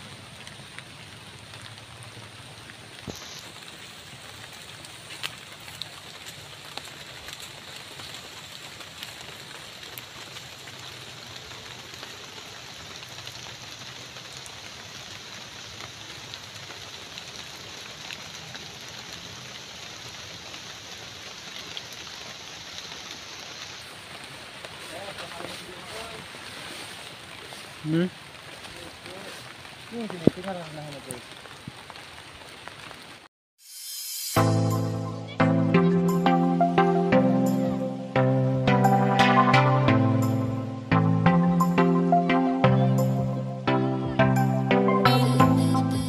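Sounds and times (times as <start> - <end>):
rain pattering on foliage: 0.0 - 33.3, 34.6 - 46.0.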